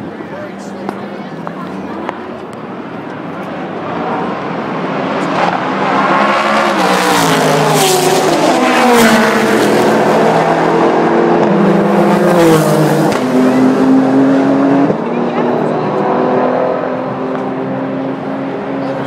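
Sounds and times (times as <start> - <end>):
race cars passing at speed: 0.0 - 19.0.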